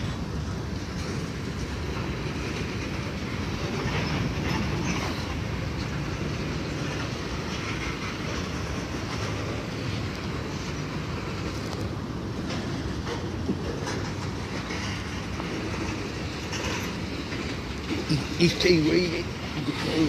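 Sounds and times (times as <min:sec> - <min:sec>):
freight train wheels rumbling: 0:00.0 - 0:20.0
wheels and cars clanking: 0:00.0 - 0:20.0.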